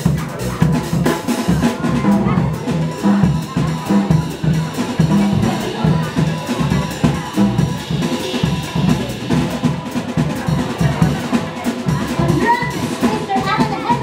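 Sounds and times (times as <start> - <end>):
low bass notes: 0.0 - 13.0
steady drum beat: 0.0 - 14.0.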